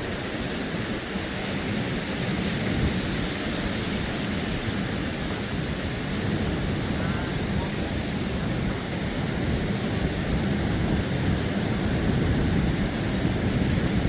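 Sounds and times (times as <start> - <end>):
ocean surf: 0.0 - 14.0
wind: 0.0 - 14.0.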